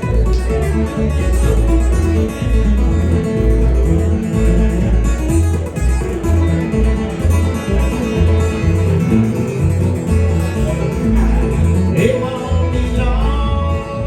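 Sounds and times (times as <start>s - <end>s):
acoustic guitar picking: 0.0s - 14.0s
banjo picking: 0.0s - 14.0s
bass notes: 0.0s - 14.0s.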